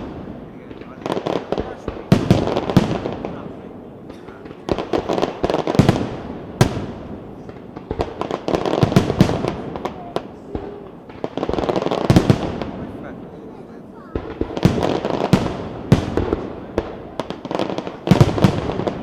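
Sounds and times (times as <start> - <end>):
sharp firework bang: 0.0 - 19.0.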